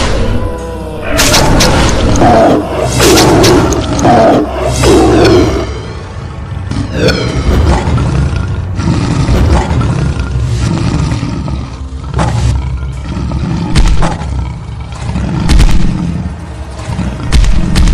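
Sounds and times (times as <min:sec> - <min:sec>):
lion roaring and growling: 0:00.0 - 0:17.9.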